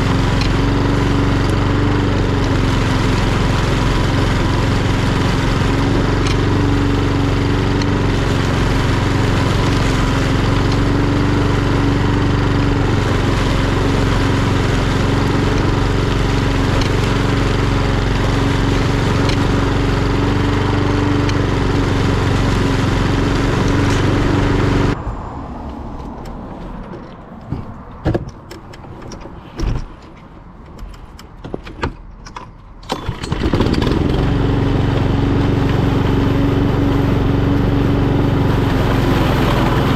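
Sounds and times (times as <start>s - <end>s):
lawn mower engine running: 0.0s - 25.0s, 32.0s - 39.9s.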